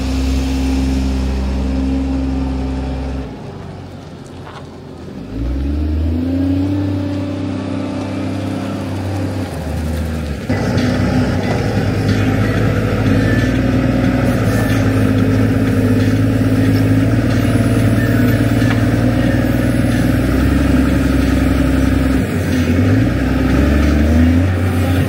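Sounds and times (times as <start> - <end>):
diesel engine running hard: 0.0 - 25.0.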